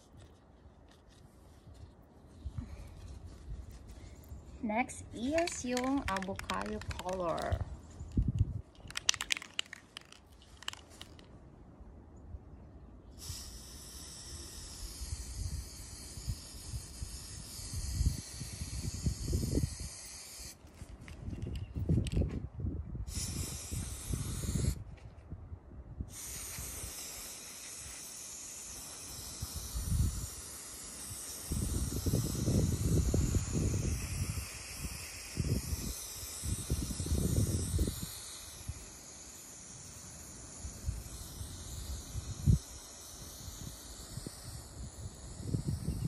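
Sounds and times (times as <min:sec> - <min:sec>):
spray paint can hissing: 0:00.9 - 0:11.3, 0:13.2 - 0:22.3, 0:23.1 - 0:24.8, 0:26.1 - 0:46.0.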